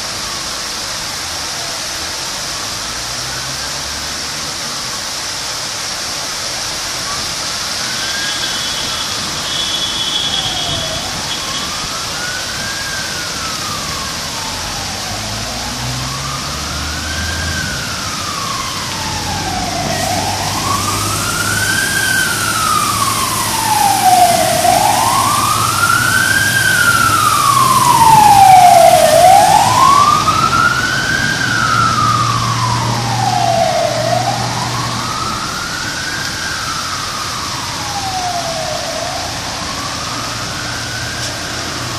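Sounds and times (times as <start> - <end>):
emergency siren wailing: 0.0 - 41.9
rain hiss: 0.0 - 41.9.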